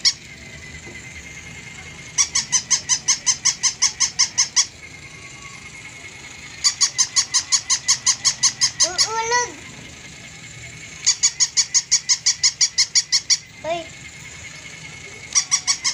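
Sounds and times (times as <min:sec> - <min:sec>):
faint steady whine: 0:00.0 - 0:15.9
toy dog electronic yips: 0:00.0 - 0:15.9.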